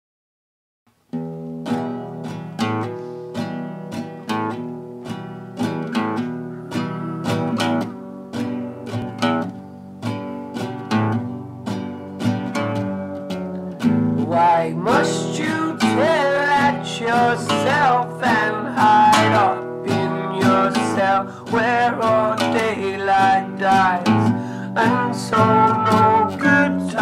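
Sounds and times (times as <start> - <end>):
guitar strumming chords: 1.1 - 27.0.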